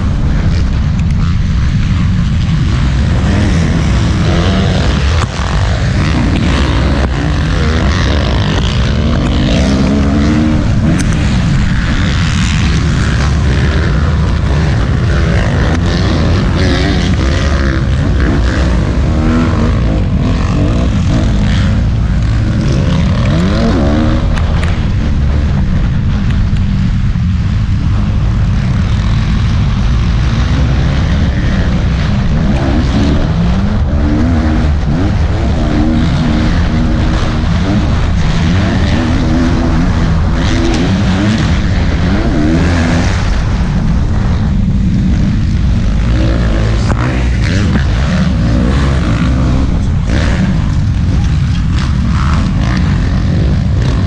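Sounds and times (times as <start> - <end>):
motocross bikes racing: 0.0 - 54.0.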